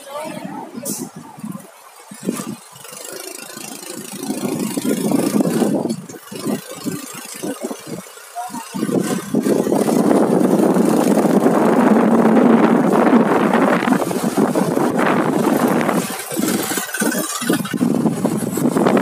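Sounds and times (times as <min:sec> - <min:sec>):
motorcycle engine running: 0:02.0 - 0:19.0.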